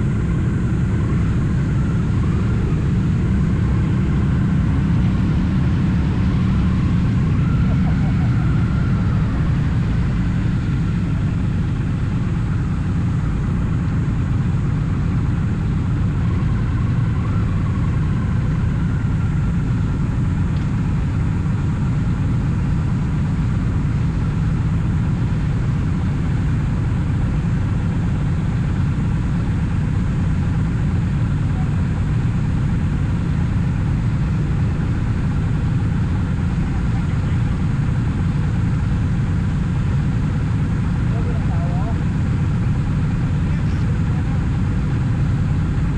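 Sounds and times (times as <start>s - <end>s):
motorcycle engine running: 0.0s - 45.9s
road and wind noise: 0.0s - 45.9s.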